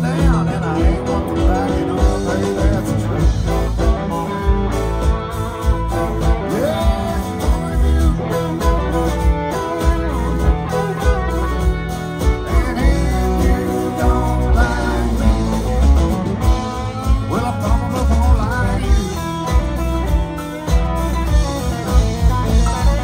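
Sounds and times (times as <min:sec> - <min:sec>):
acoustic and electric guitars: 0:00.0 - 0:23.0
bass: 0:00.0 - 0:23.0
drums: 0:00.0 - 0:23.0
fiddle: 0:00.9 - 0:23.0.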